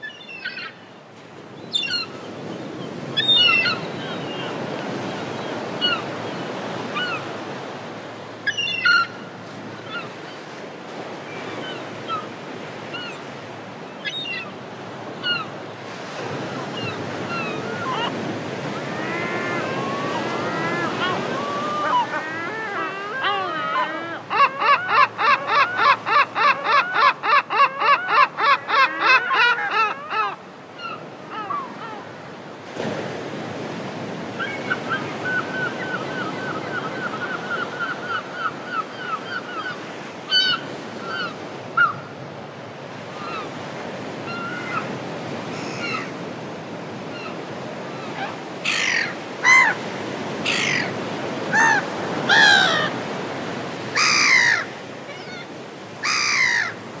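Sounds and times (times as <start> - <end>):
gulls calling: 0.0 - 0.8, 1.4 - 32.2, 33.7 - 42.2, 43.0 - 46.3, 46.9 - 57.0.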